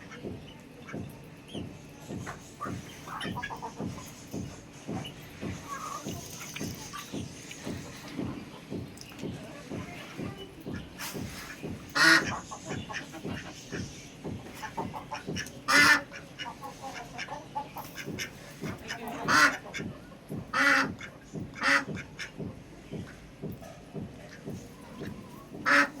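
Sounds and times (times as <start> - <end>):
ducks quacking: 0.0 - 23.2, 24.2 - 26.0.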